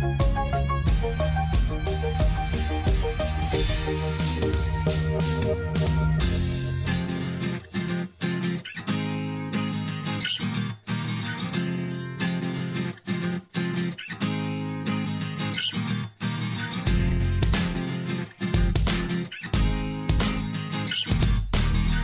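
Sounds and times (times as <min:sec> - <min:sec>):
strummed guitar music: 0:00.0 - 0:22.0.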